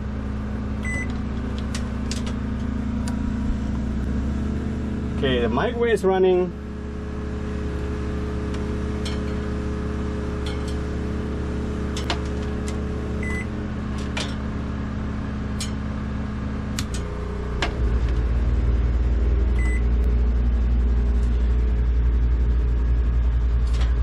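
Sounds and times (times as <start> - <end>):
generator engine hum: 0.0 - 24.0
microwave running hum: 0.0 - 24.0.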